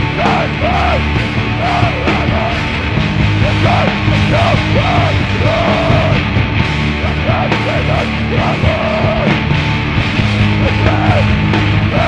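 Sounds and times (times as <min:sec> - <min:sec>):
vocalist yelling: 0:00.0 - 0:02.8, 0:03.4 - 0:06.3, 0:07.0 - 0:09.4, 0:10.4 - 0:12.0
distorted guitars: 0:00.0 - 0:12.0
drums: 0:00.0 - 0:12.0
punk band playing: 0:00.0 - 0:12.0.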